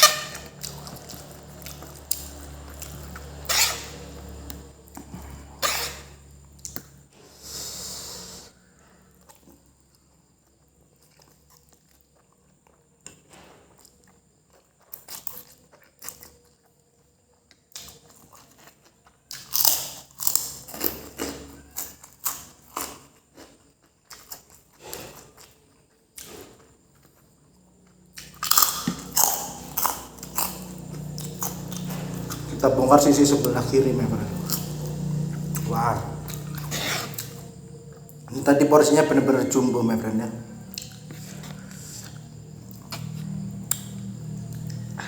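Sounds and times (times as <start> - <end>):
chewing crunchy food: 0.0 - 7.0, 8.6 - 45.0.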